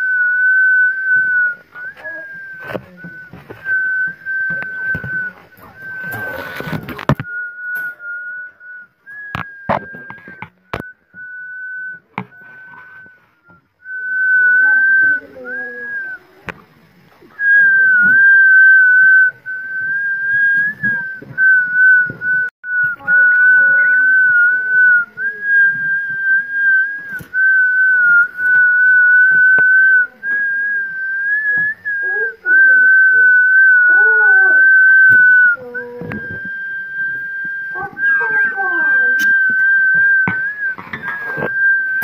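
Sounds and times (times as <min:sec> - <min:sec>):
high whistling tone: 0:00.0 - 0:42.0.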